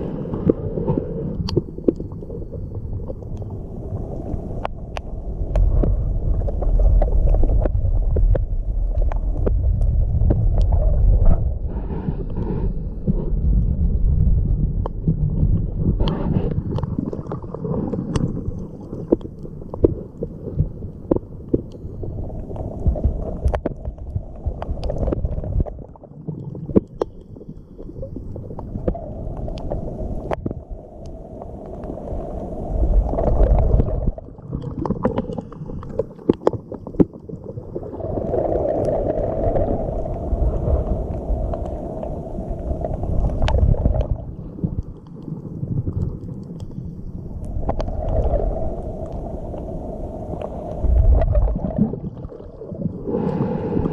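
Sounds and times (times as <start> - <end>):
muffled underwater surging: 0.0 - 53.9.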